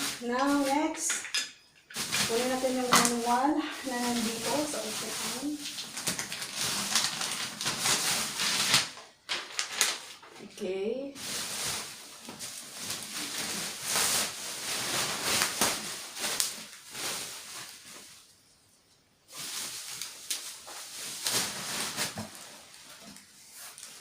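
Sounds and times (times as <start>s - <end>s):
plastic packaging crinkling: 0.0s - 1.2s, 1.9s - 10.4s, 11.2s - 18.3s, 19.3s - 24.0s.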